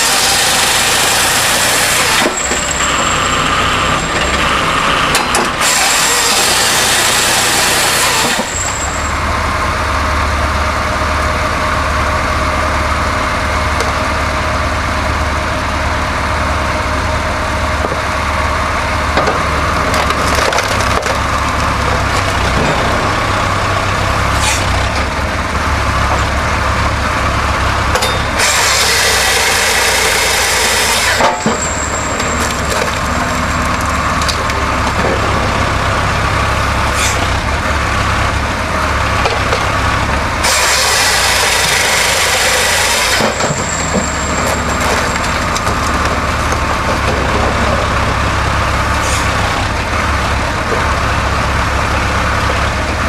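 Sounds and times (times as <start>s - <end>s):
wood splintering and crunching: 0.0s - 9.1s, 17.4s - 53.0s
machine engine drone: 0.0s - 53.0s.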